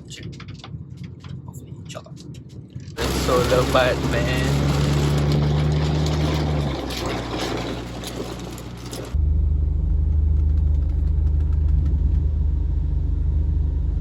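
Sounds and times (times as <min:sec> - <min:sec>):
low engine and road rumble: 0:00.0 - 0:14.0.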